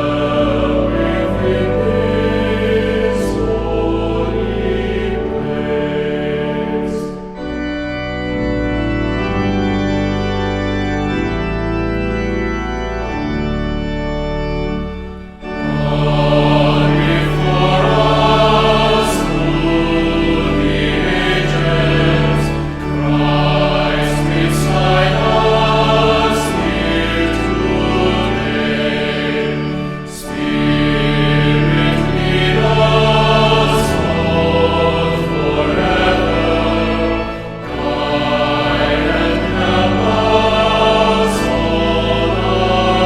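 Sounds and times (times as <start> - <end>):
choir singing: 0.0 - 12.2, 15.4 - 43.0
church organ chords: 0.0 - 43.0.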